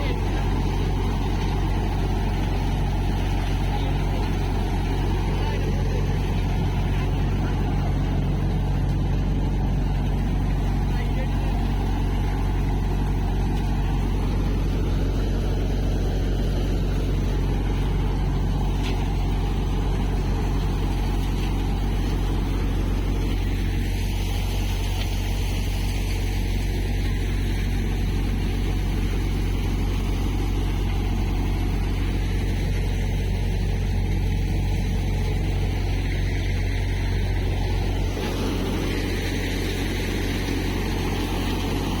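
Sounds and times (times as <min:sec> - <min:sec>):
tractor engine droning: 0:00.0 - 0:42.0.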